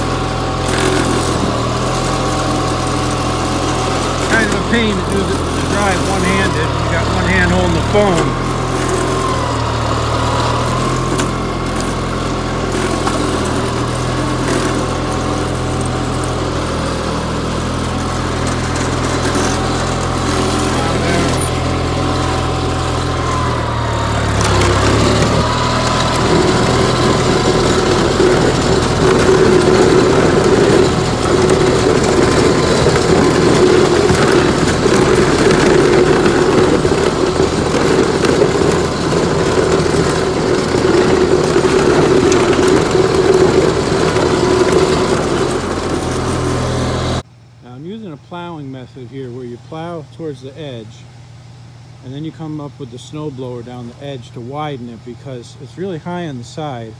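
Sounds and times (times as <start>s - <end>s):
garden tractor engine running: 0.0s - 56.9s.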